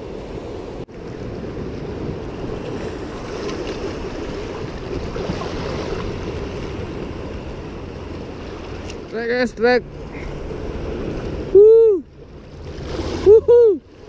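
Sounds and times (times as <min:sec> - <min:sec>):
waves breaking over rocks: 0:00.0 - 0:14.0
wind buffeting microphone: 0:00.0 - 0:14.0.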